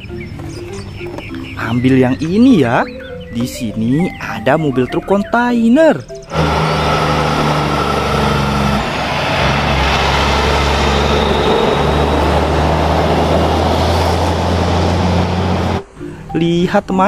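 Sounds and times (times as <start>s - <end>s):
truck engine running: 0.0s - 4.2s, 6.0s - 15.9s.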